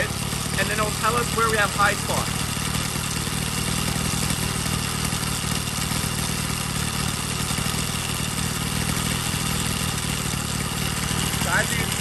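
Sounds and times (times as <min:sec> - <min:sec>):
two-stroke bicycle engine running: 0:00.0 - 0:12.0.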